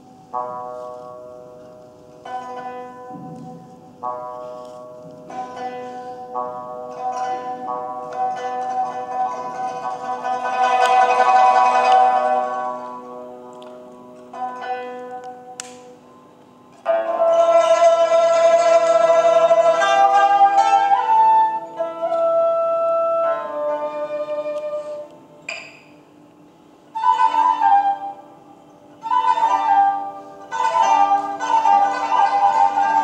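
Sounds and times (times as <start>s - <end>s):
pipa plucked with tremolo: 0.4s - 16.0s, 16.8s - 25.9s, 29.0s - 33.0s.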